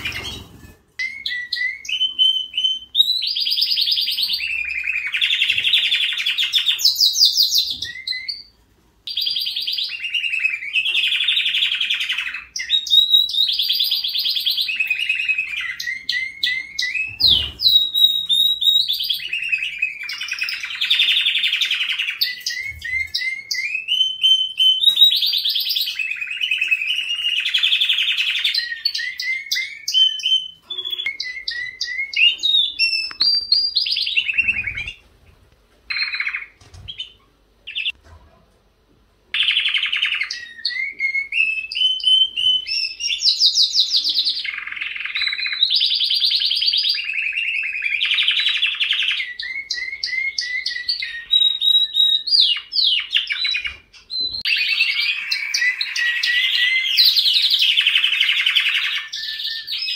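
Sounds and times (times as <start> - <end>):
canary singing trills and whistles: 0.0 - 35.1, 35.9 - 38.0, 39.3 - 59.9.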